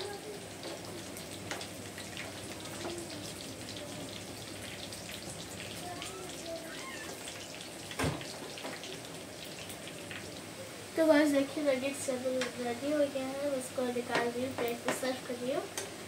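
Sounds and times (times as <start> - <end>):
nuggets frying in hot oil: 0.0 - 16.0.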